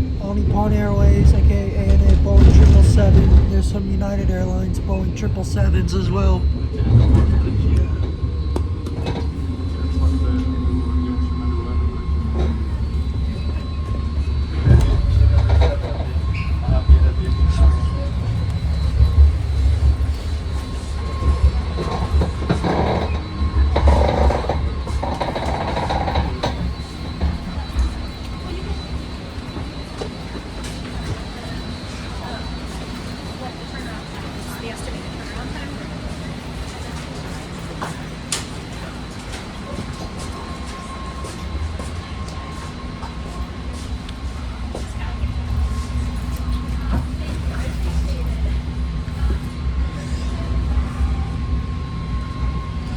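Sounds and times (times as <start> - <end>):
thin steady whine: 0.0 - 52.9
train wheels rumbling on track: 0.0 - 52.9.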